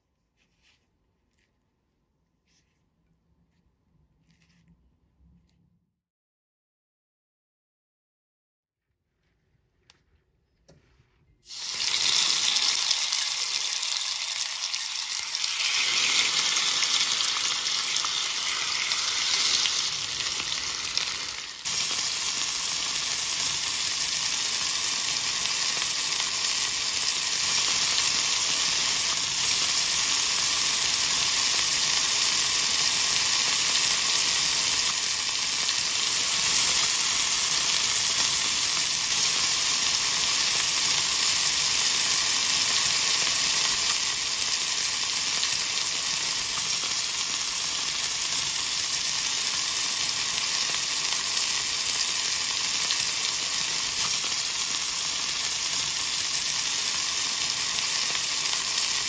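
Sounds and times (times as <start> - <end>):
chicken sizzling in hot oil: 11.4 - 59.0.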